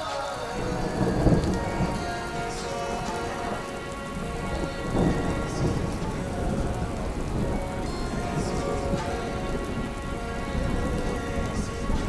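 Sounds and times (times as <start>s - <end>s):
heavy rain pouring: 0.0s - 12.0s
low rumble of thunder: 0.5s - 12.0s.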